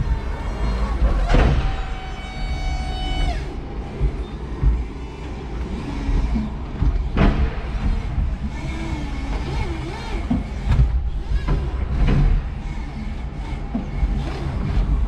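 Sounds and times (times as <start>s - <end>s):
electric motor whine: 0.0s - 15.0s
forklift moving rumble: 0.0s - 15.0s.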